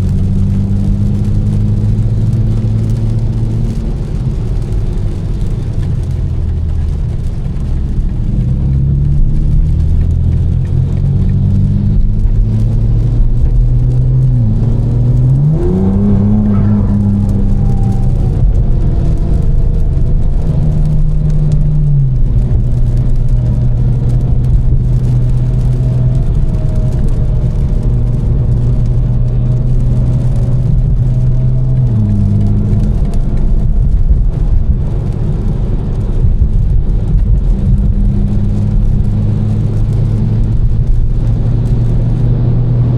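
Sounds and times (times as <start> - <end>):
car engine droning while driving: 0.0 - 42.9.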